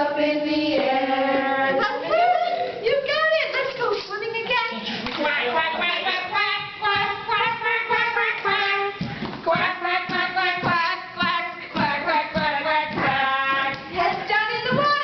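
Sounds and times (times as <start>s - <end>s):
women and children singing: 0.0s - 15.0s.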